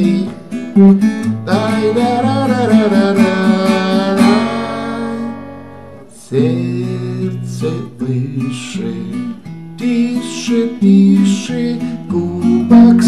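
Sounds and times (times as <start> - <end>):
man singing wordless refrain: 0.0 - 0.4, 1.4 - 5.4, 6.1 - 13.0
strummed acoustic guitar: 0.0 - 13.0.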